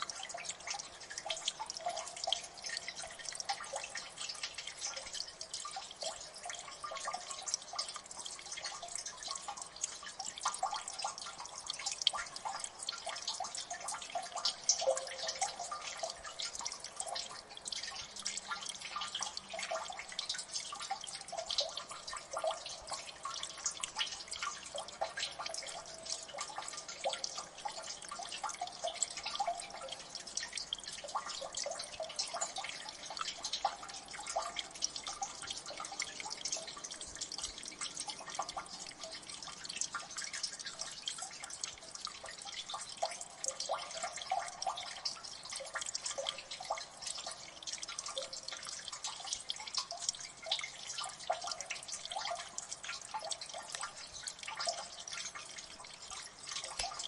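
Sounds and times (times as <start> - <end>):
water dripping and splashing: 0.0 - 57.0.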